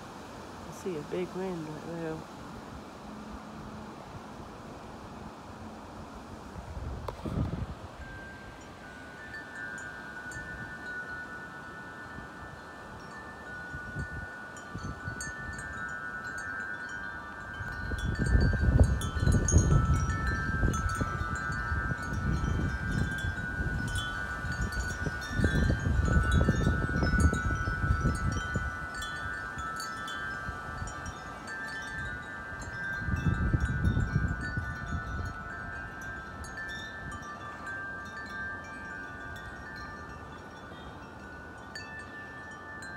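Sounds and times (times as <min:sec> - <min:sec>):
wind gusts hitting microphone: 0:06.4 - 0:42.9
wind chimes ringing: 0:07.1 - 0:42.9.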